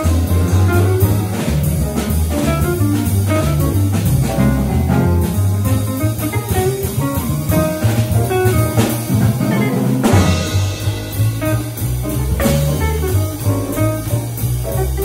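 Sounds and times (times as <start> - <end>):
double bass: 0.0 - 15.0
drum kit: 0.0 - 15.0.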